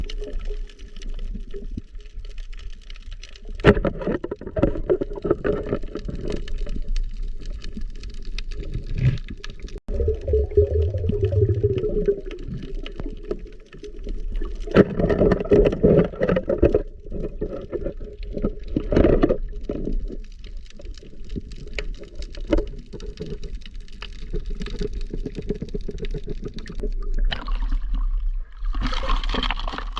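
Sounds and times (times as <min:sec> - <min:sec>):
water splashing and sloshing: 0:00.0 - 0:29.9.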